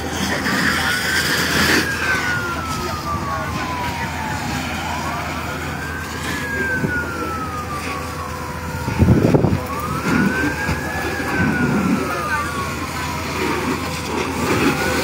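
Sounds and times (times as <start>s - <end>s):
fire truck siren wailing: 0.0s - 15.0s
steady low rumble: 0.0s - 15.0s.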